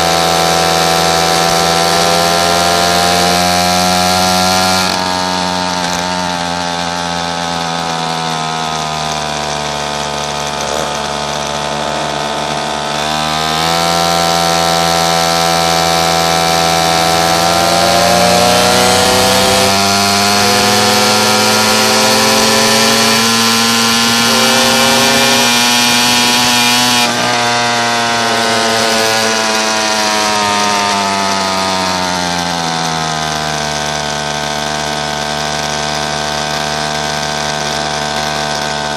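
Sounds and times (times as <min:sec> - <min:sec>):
pocket bike engine running: 0:00.0 - 0:38.9.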